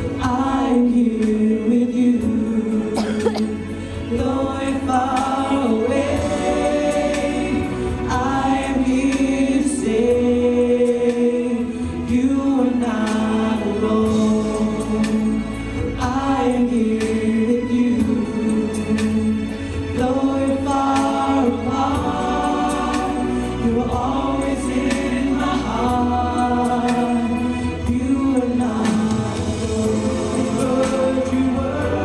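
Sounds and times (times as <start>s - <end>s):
choir singing in harmony: 0.0s - 32.0s.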